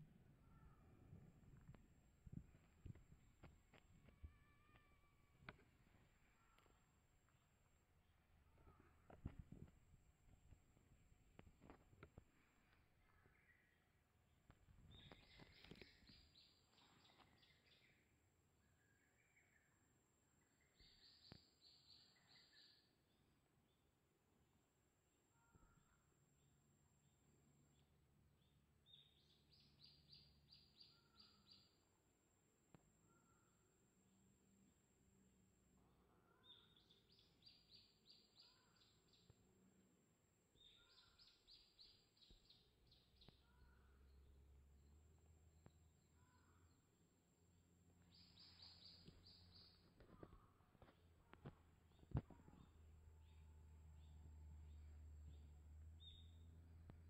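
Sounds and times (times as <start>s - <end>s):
faint bird song notes: 0.0s - 24.1s, 25.1s - 57.0s.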